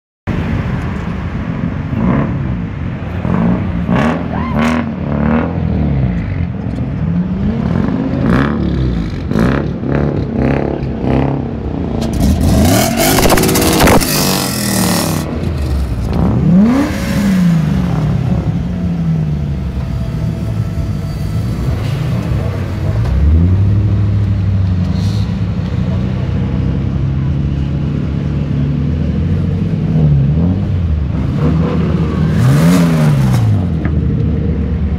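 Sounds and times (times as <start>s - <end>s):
car engines revving: 0.3s - 34.9s.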